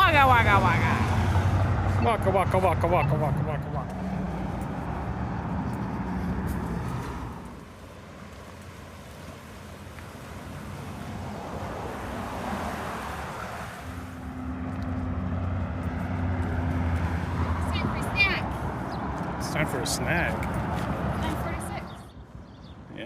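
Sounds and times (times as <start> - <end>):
vehicle engine passing: 0.0 - 22.1
vehicle engine approaching: 0.0 - 22.2.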